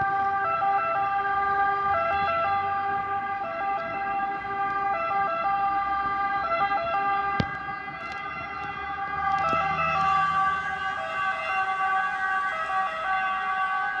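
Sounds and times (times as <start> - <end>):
two-tone fire engine sirens: 0.0 - 14.0.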